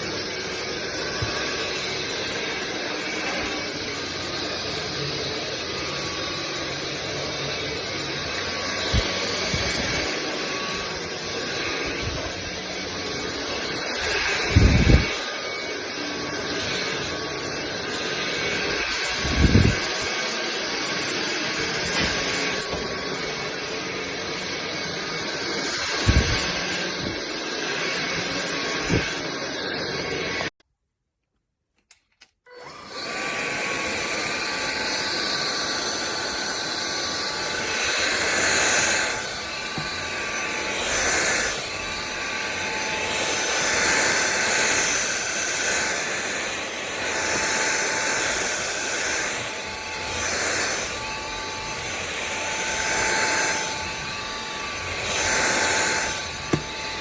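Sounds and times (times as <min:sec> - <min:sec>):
stick vacuum running: 0:00.0 - 0:30.5, 0:32.5 - 0:57.0.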